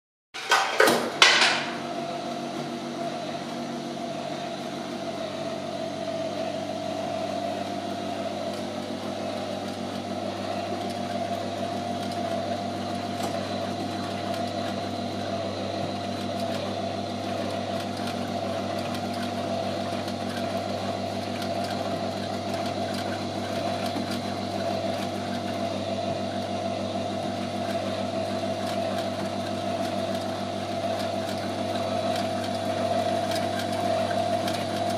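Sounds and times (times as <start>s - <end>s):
motor and gearing hum: 0.4s - 34.9s.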